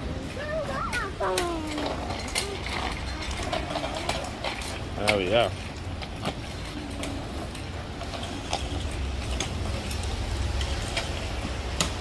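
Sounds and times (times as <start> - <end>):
bicycle wheels rolling on sidewalk: 0.0 - 12.0
bicycle clicks and rattles: 0.3 - 12.0.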